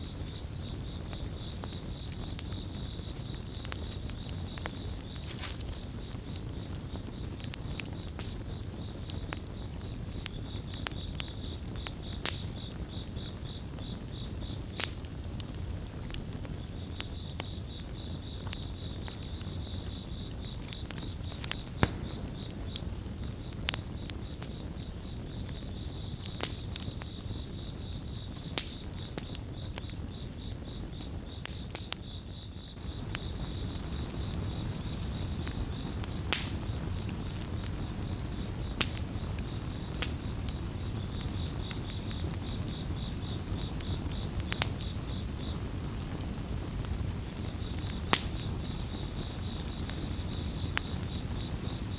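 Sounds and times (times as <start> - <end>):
campfire crackling and popping: 0.0 - 51.9
crickets chirping: 0.0 - 51.9.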